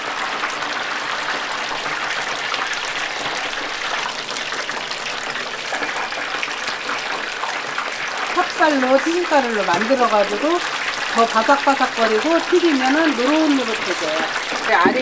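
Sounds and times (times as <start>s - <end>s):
deep-frying sizzle and bubbling: 0.0s - 15.0s.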